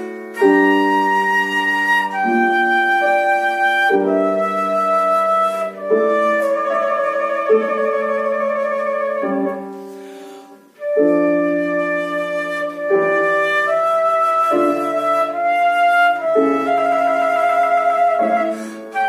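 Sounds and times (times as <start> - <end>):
flute melody: 0.0 - 19.0
piano accompaniment: 0.0 - 19.0.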